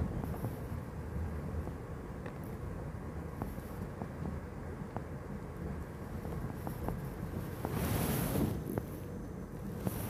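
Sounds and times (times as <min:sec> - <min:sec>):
train rumbling inside carriage: 0:00.0 - 0:10.0.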